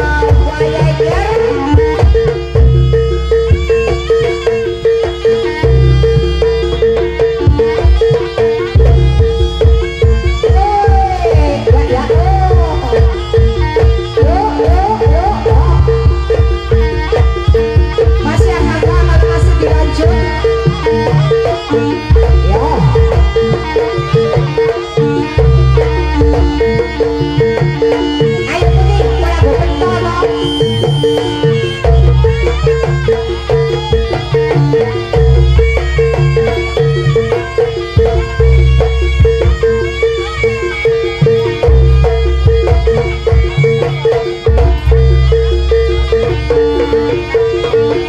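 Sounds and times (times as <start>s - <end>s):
gamelan music: 0.0s - 48.0s
hand drum pattern: 0.0s - 48.0s.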